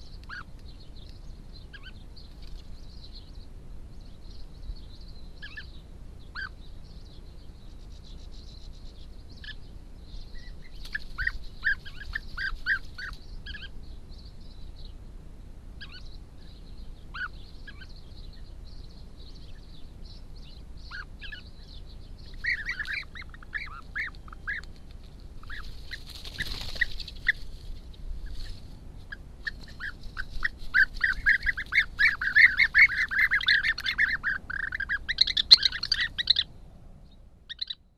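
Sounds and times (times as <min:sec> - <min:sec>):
bee-eaters calling: 0:00.0 - 0:15.0, 0:15.8 - 0:36.5, 0:37.5 - 0:37.9.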